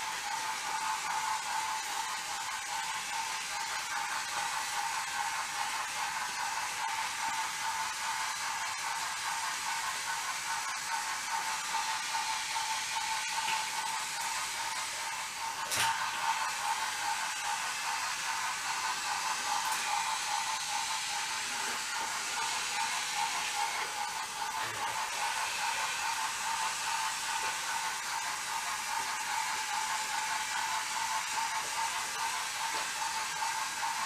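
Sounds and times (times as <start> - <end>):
toy train motors whirring: 0.0 - 34.0.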